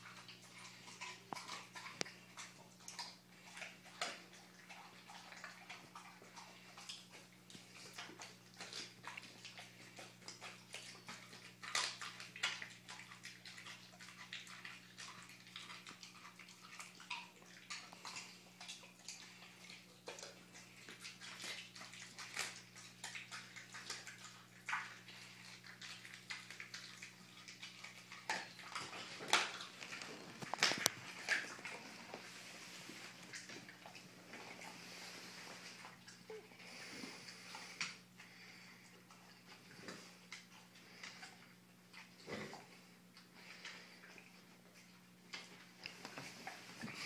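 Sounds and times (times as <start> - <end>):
dog chewing raw chicken: 0.0 - 47.0.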